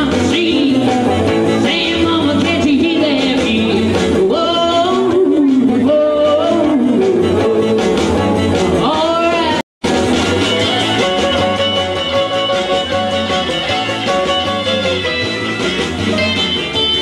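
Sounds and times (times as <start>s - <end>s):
electric guitar: 0.0s - 17.0s
rock and roll instrumental: 0.0s - 17.0s.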